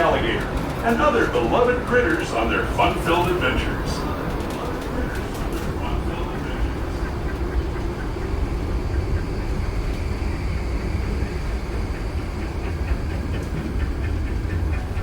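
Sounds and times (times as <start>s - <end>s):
train car rumbling on track: 0.0s - 15.0s.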